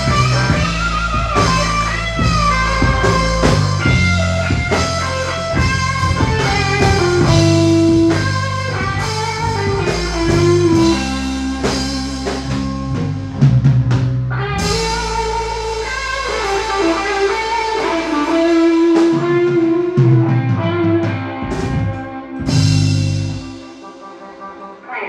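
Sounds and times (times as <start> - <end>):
electric bass: 0.0 - 24.8
drum kit: 0.0 - 25.0
electric guitar: 0.0 - 25.0.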